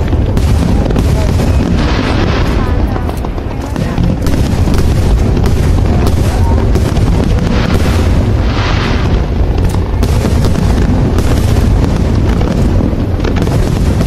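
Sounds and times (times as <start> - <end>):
fireworks booming: 0.0 - 14.0
fireworks hissing: 0.0 - 14.0.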